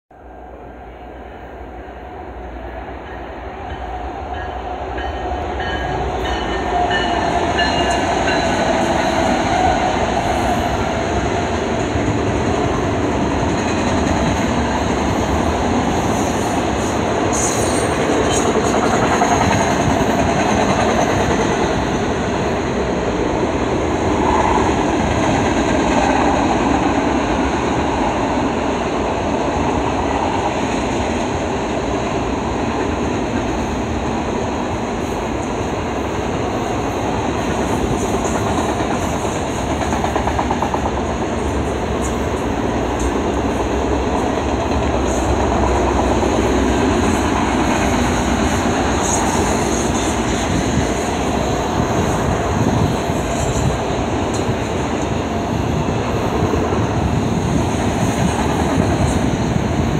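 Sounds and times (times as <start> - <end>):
diesel locomotives passing: 0.1 - 59.9
train wheels running over rails: 2.7 - 59.9.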